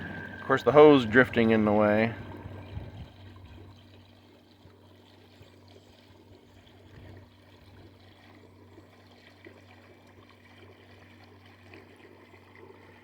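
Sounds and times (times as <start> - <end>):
filter pump humming: 0.0 - 13.0
water trickling and splashing: 0.0 - 13.0.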